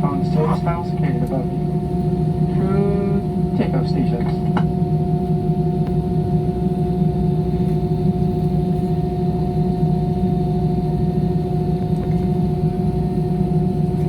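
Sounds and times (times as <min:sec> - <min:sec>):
airliner engines humming: 0:00.0 - 0:14.0.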